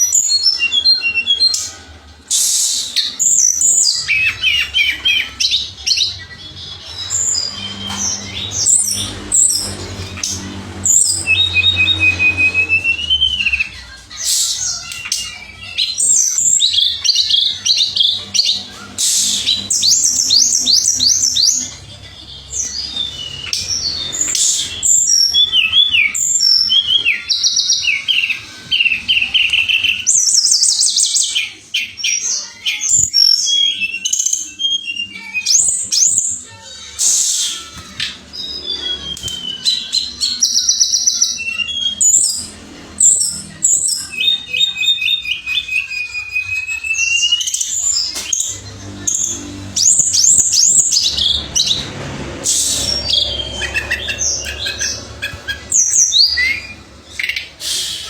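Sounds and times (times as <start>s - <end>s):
songbird chirping and trilling: 0.0s - 58.0s.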